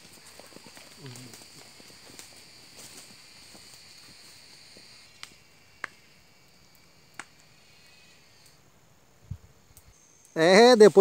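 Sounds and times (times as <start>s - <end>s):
high-pitched insect trill: 0.0s - 8.6s, 9.3s - 11.0s.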